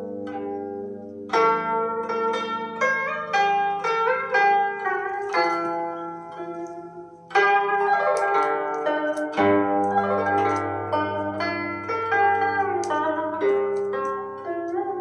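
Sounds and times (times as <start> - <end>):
plucked zither music: 0.0 - 15.0.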